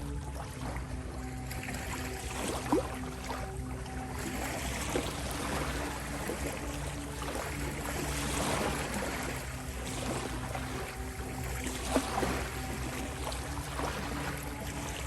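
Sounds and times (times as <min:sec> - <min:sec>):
ocean waves washing: 0:00.0 - 0:15.0
synthesizer drone: 0:00.0 - 0:15.0.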